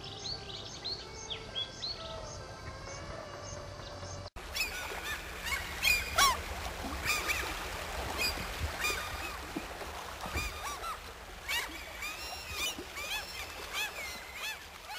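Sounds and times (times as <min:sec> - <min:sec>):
waterbirds calling: 0:00.0 - 0:14.9.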